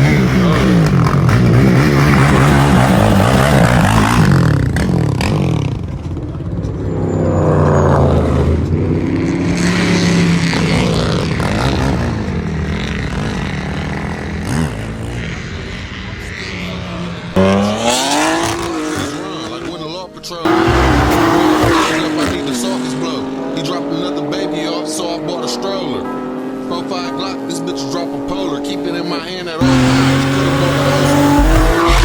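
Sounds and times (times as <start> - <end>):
car engine revving loudly: 0.0 - 6.0, 6.9 - 19.7, 20.4 - 32.0.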